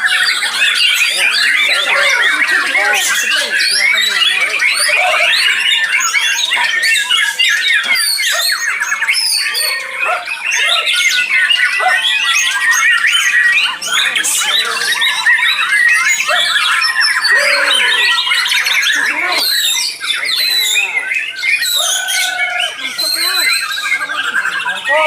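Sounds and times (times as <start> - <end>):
chorus of birds singing: 0.0 - 25.0.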